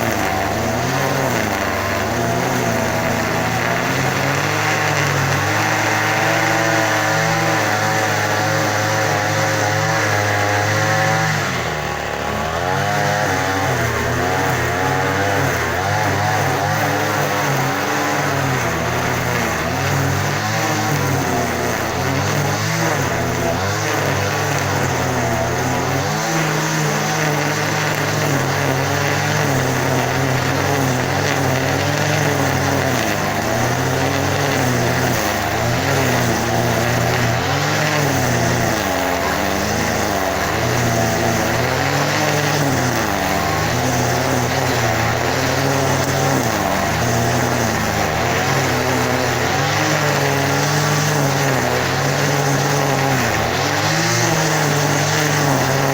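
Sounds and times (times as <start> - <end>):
engine running with wavering pitch: 0.0 - 55.9.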